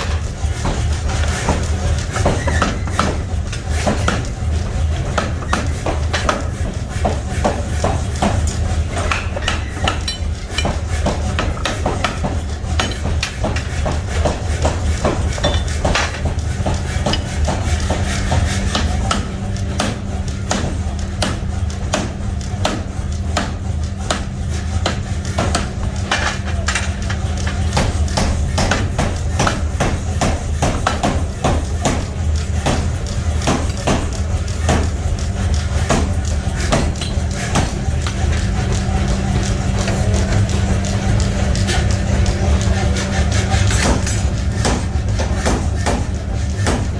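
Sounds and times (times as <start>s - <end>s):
low machine hum: 0.0s - 46.9s.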